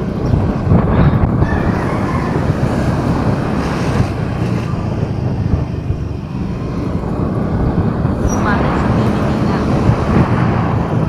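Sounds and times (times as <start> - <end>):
traffic noise from moving vehicle: 0.0 - 11.0
wind buffeting microphone: 0.0 - 11.0.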